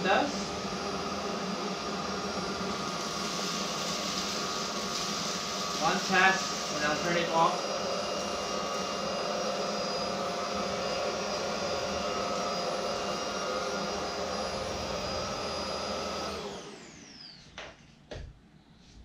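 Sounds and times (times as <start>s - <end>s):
stick vacuum motor whine: 0.0s - 17.7s.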